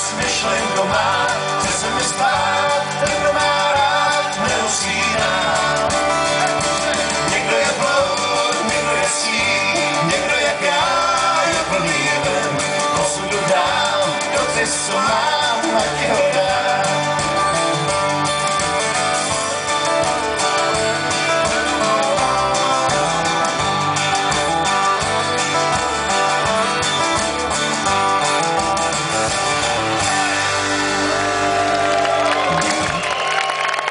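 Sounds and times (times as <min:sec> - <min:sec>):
acoustic guitars strumming: 0:00.0 - 0:33.2
bass guitar: 0:00.0 - 0:33.9.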